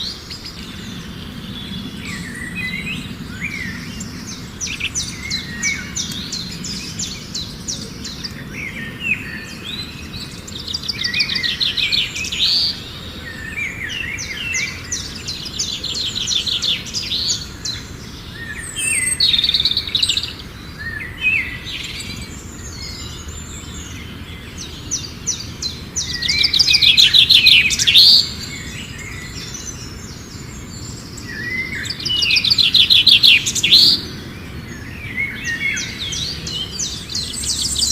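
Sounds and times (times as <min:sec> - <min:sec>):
songbirds chirping and trilling: 0:00.0 - 0:37.9.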